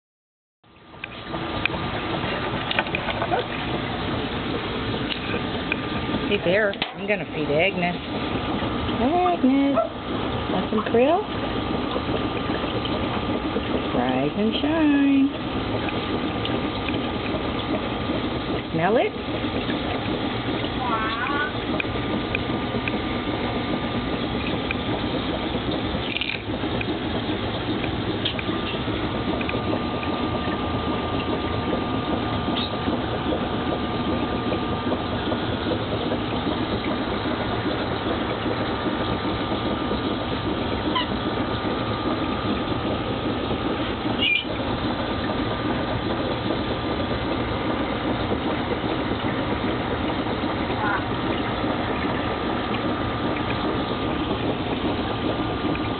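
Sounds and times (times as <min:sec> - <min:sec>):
aquarium filter pump humming: 0:00.6 - 0:55.9
water rushing: 0:00.7 - 0:55.9.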